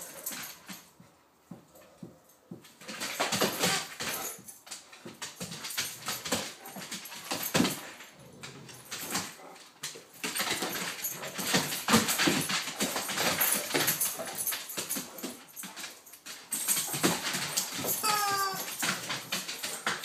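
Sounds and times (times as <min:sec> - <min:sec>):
dogs playing rough: 0:00.0 - 0:20.0.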